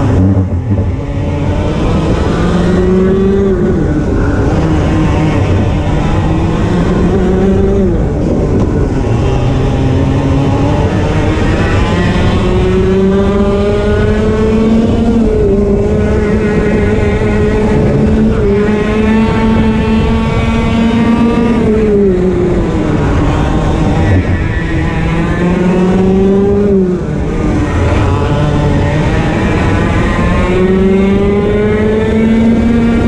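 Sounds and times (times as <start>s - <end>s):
kart engine at full throttle: 0.0s - 33.0s.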